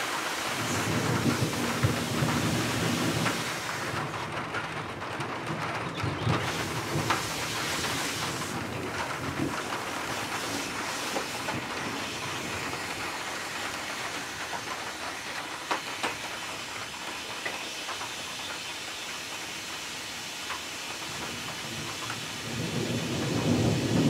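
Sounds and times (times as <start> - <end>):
heavy rain falling: 0.0 - 24.0
raindrops tapping close by: 0.0 - 24.0.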